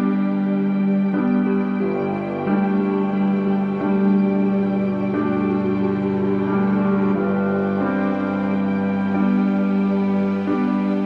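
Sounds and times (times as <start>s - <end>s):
slow ambient music: 0.0s - 11.0s.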